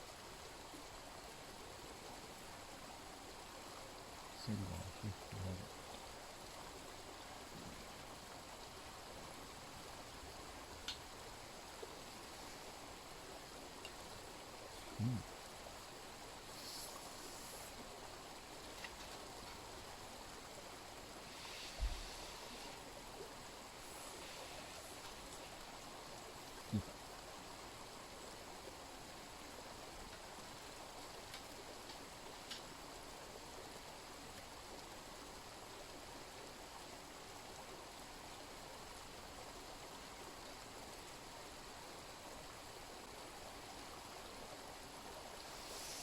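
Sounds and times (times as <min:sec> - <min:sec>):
mountain stream running: 0:00.0 - 0:46.0.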